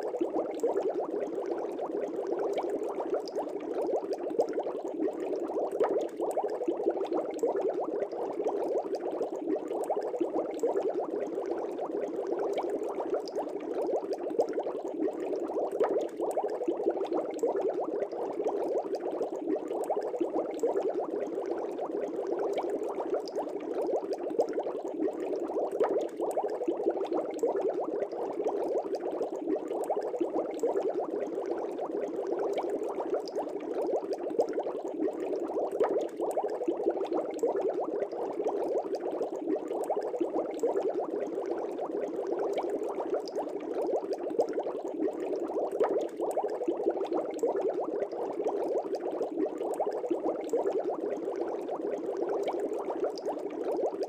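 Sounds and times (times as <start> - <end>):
air bubbling through aquarium water: 0.0 - 54.0.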